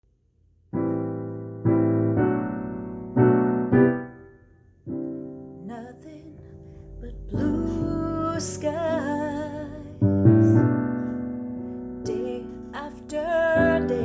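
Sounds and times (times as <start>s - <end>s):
piano chords ringing: 0.7s - 14.0s.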